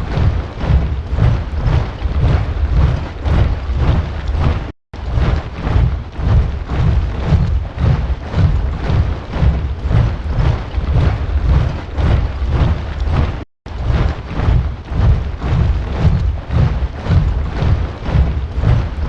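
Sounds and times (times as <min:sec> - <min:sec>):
soldiers marching in step: 0:00.0 - 0:19.0.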